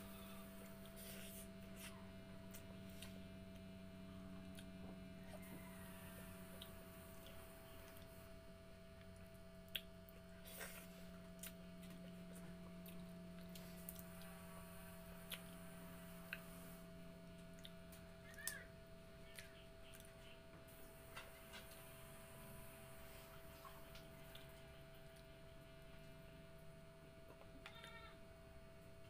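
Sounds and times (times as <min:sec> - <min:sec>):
steady low hum: 0:00.0 - 0:29.0
quiet chewing: 0:00.1 - 0:08.3, 0:09.0 - 0:18.6, 0:19.2 - 0:22.1, 0:23.0 - 0:26.2.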